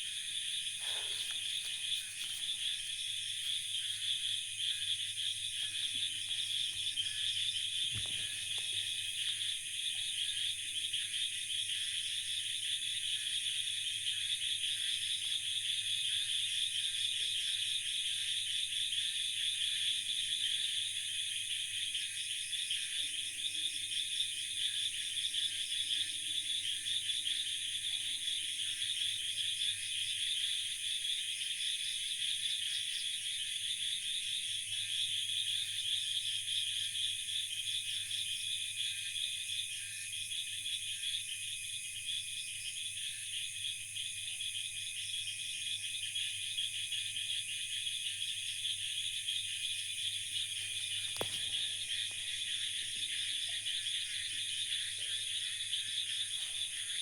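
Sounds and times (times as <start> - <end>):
frogs and insects chorus: 0.0 - 57.0.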